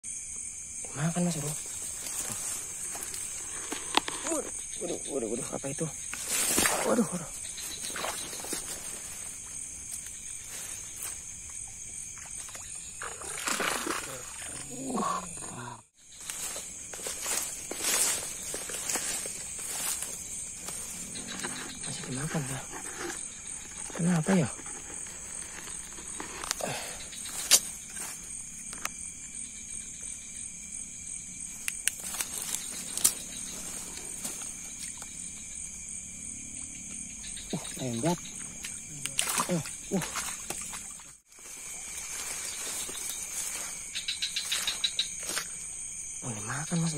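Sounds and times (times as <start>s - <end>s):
night insects chorus: 0.0s - 46.9s.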